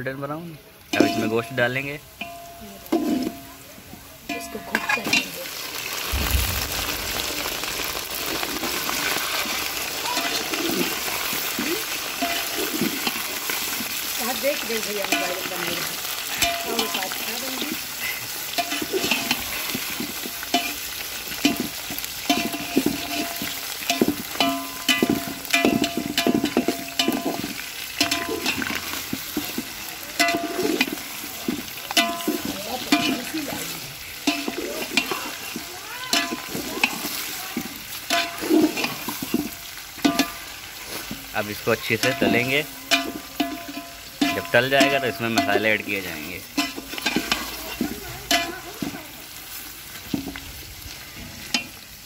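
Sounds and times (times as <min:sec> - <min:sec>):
meat sizzling in hot oil: 0:00.0 - 0:52.0
metal ladle scraping pot: 0:02.2 - 0:03.5, 0:07.2 - 0:41.3, 0:42.0 - 0:49.0.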